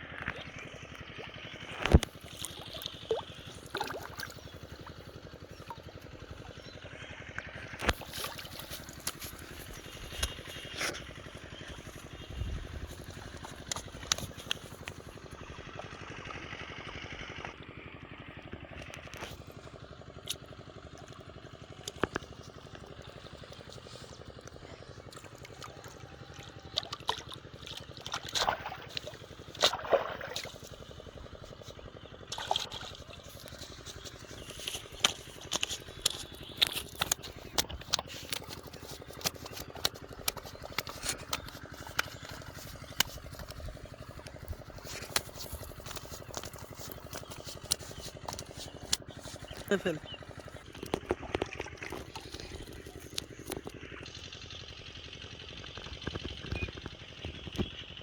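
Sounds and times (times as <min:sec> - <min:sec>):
water trickling and splashing: 0:00.1 - 0:16.2, 0:20.2 - 0:54.2.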